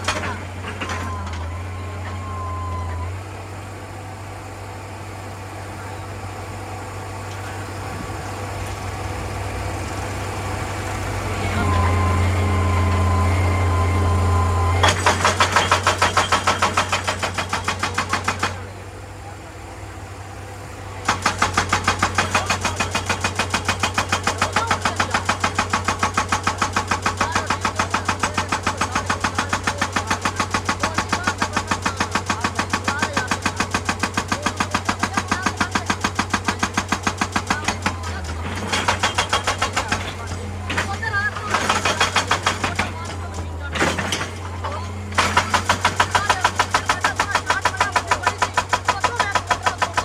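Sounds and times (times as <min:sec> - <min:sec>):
hydraulic rock breaker hammering: 0:00.0 - 0:03.5, 0:05.0 - 0:50.0
diesel engine humming: 0:00.0 - 0:50.0.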